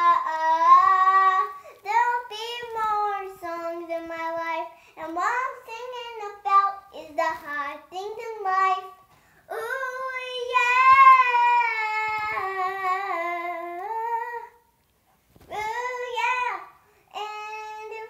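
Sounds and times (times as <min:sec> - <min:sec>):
girl singing: 0:00.0 - 0:14.8, 0:15.4 - 0:18.0.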